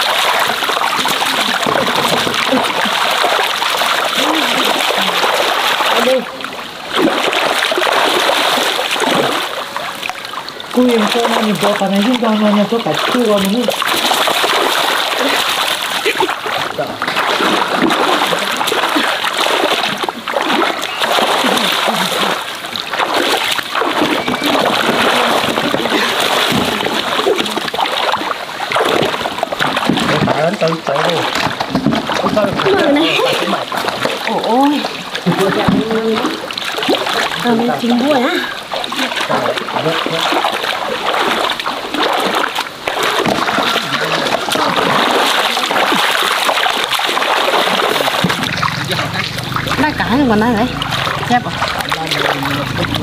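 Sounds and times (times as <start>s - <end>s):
nets dragging through water: 0.0s - 53.0s
water splashing from wading: 0.0s - 53.0s.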